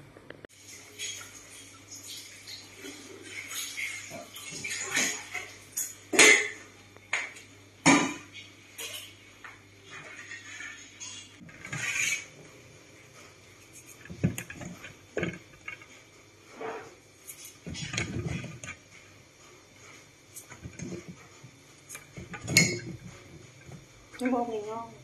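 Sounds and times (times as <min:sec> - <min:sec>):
dishes clattering in a sink: 0:00.8 - 0:12.6, 0:13.7 - 0:19.2, 0:20.4 - 0:24.3.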